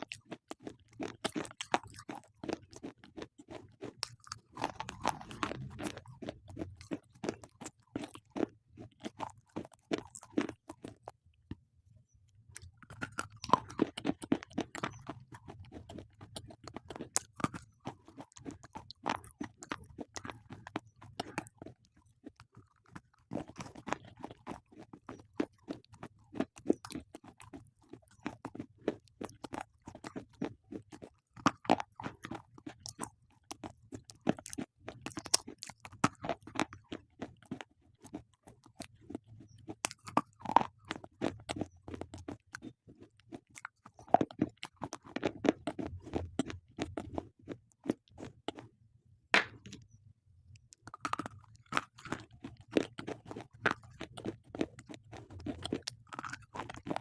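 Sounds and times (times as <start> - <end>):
dry crunching of chewing: 0.0 - 11.6, 12.3 - 48.8, 50.5 - 57.0.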